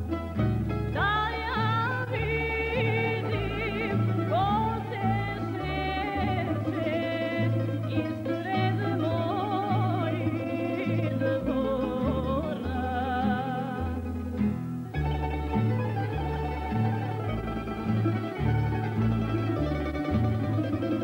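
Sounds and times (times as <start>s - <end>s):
string orchestra with bass line: 0.0s - 21.0s
woman singing folk song: 0.0s - 21.0s.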